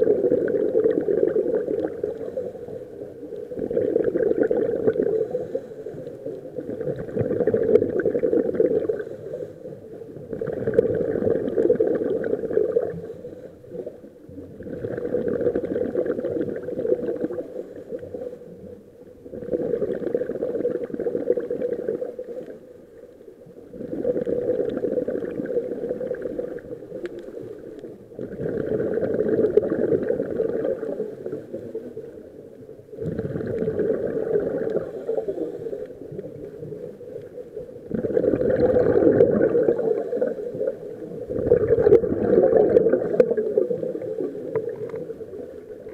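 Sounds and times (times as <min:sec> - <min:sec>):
underwater regulator bubbling: 0:00.0 - 0:09.4, 0:10.0 - 0:18.6, 0:19.2 - 0:22.6, 0:23.6 - 0:32.1, 0:32.9 - 0:45.9.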